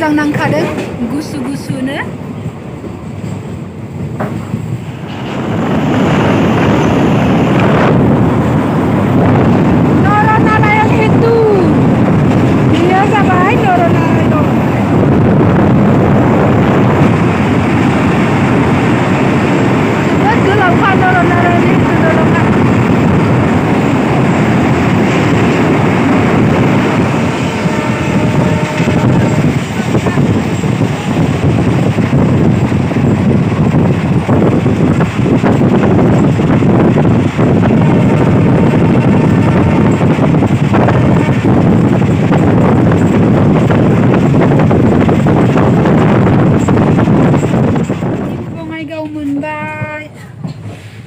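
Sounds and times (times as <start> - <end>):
wind on microphone: 0.0 - 50.8
train rumbling on track: 0.0 - 51.0.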